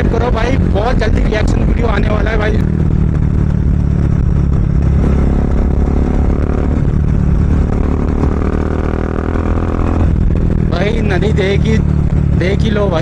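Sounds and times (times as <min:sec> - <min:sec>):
motorcycle engine exhaust note: 0:00.0 - 0:13.0.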